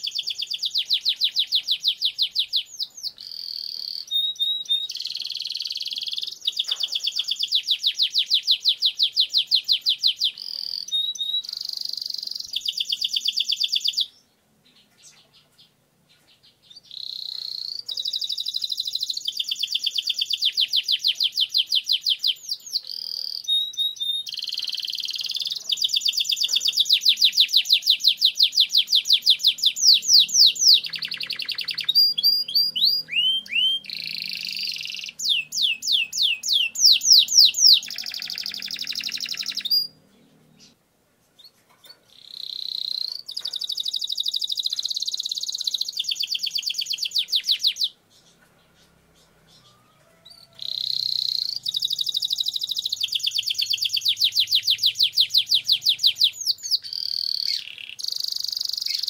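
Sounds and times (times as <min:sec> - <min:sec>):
canary singing trills: 0:00.0 - 0:40.8, 0:41.4 - 0:59.0.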